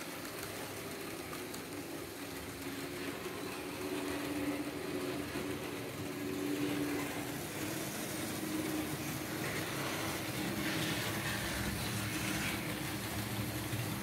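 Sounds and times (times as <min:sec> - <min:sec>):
model train wheels rolling: 0:00.0 - 0:14.0.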